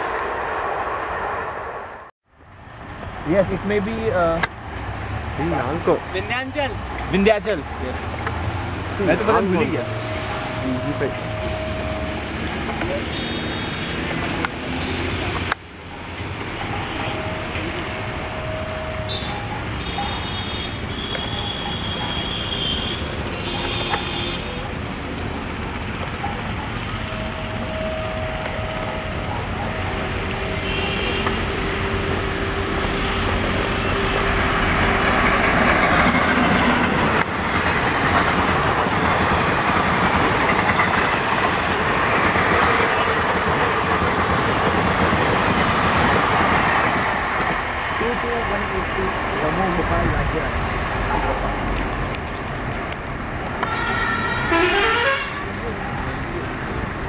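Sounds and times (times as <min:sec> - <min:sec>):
train wheels rumbling on rails: 0:03.2 - 0:54.6.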